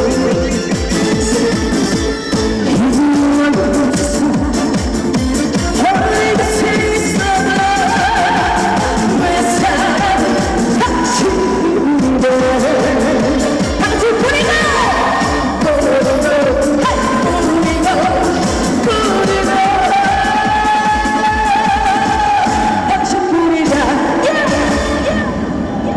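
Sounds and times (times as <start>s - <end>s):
upbeat pop backing track: 0.0s - 25.2s
woman singing: 0.0s - 25.5s.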